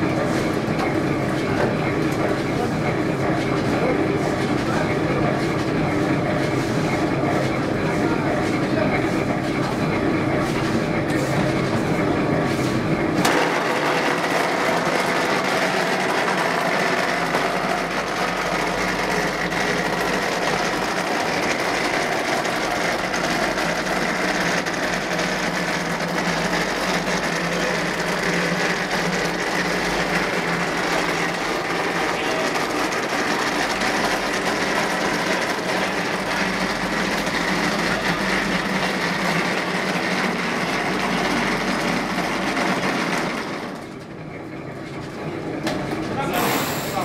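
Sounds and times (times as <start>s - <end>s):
rendering machine running: 0.0s - 47.0s.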